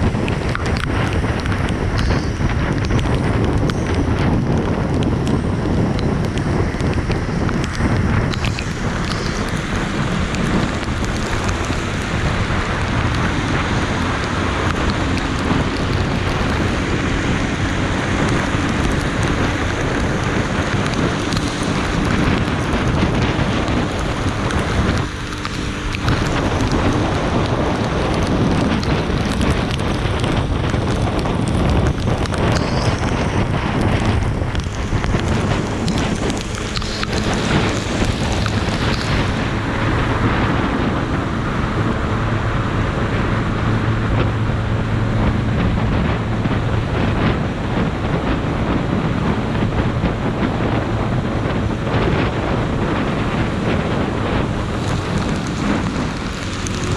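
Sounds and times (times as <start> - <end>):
heavy rain pouring: 0.0 - 56.9
wind buffeting microphone: 0.0 - 56.9.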